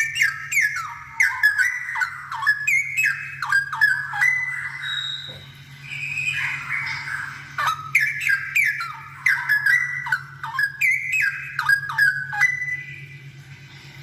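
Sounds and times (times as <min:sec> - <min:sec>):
bulbul singing whistled notes: 0:00.0 - 0:13.3
steady low hum: 0:00.0 - 0:14.0.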